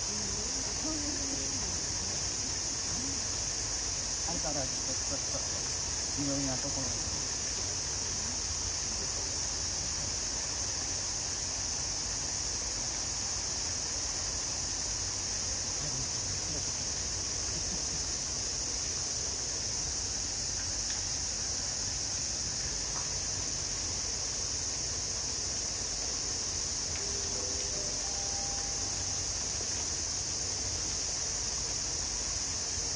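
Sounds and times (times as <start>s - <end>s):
cicada chorus drone: 0.0s - 32.9s.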